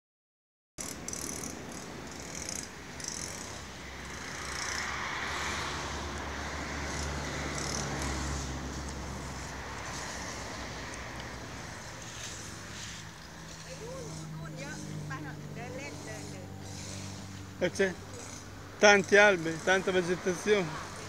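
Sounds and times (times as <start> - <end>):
vehicle engine and tyre noise: 0.8 - 21.0.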